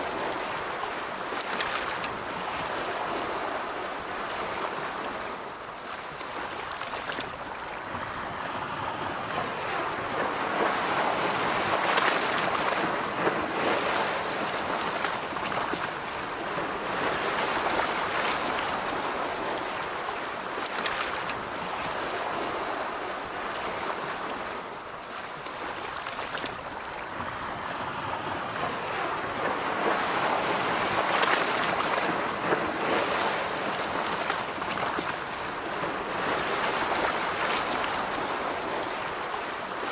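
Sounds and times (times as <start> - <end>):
ocean surf washing onto beach: 0.0 - 39.9.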